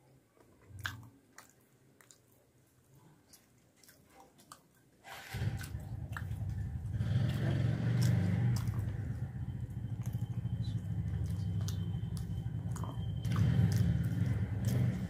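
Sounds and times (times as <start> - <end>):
chewing with wet clicks: 0.1 - 15.0.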